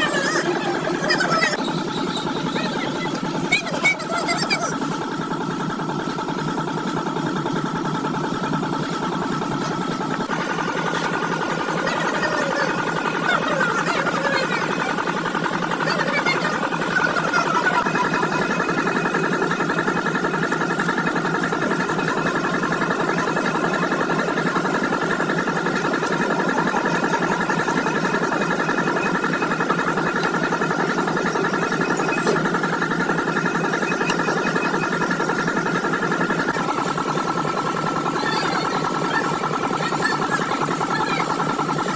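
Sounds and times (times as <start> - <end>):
machine whining and rattling: 0.0 - 41.9.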